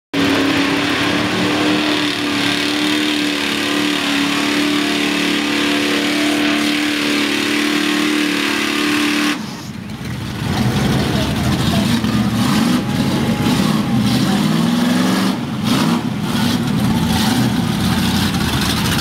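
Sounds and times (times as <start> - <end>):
tires churning through mud: 0.1 - 19.0
truck engine at high revs: 0.1 - 19.0.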